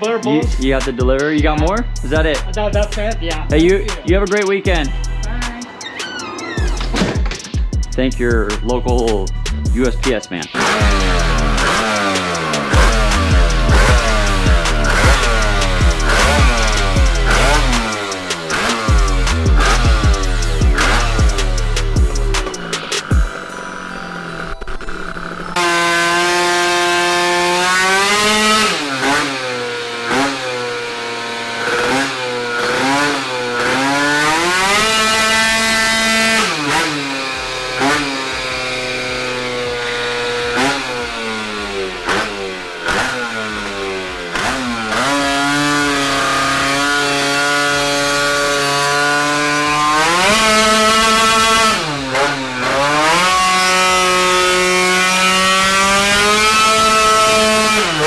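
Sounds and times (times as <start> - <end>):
scooter engine revving: 0.0 - 8.0, 8.6 - 58.0.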